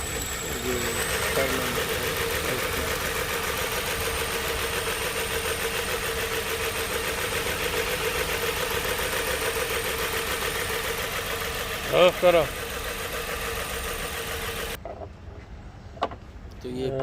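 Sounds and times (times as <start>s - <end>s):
car engine idling roughly: 0.0s - 14.8s.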